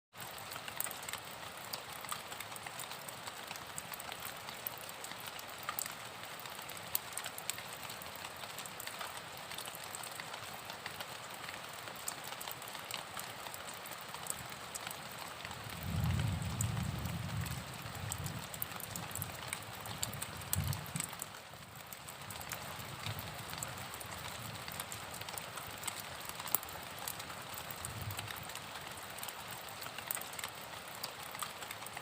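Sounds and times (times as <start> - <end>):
rain falling: 0.2 - 32.0.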